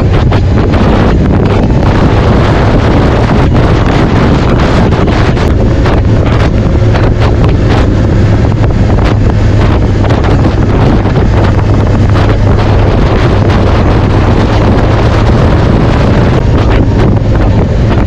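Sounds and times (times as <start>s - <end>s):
steady low drone: 0.0s - 18.0s
wind buffeting microphone: 0.0s - 18.0s.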